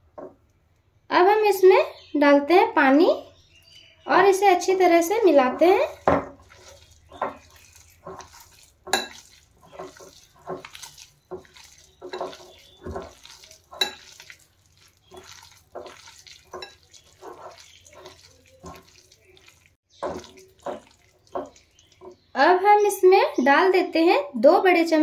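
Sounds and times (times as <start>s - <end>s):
wet batter squelching and stirring: 2.8s - 24.0s.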